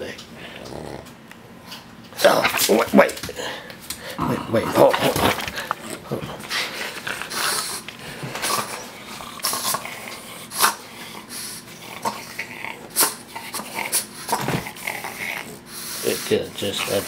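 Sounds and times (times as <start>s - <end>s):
dog breathing and snuffling: 0.2s - 17.0s
dog snorting: 0.4s - 1.2s, 4.0s - 17.0s.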